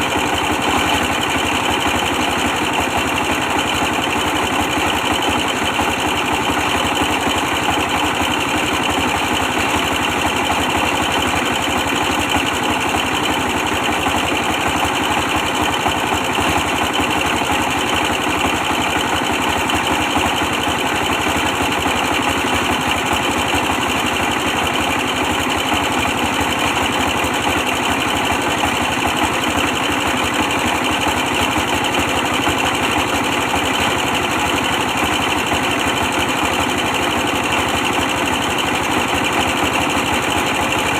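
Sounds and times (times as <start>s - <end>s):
stationary diesel engine running: 0.0s - 40.9s.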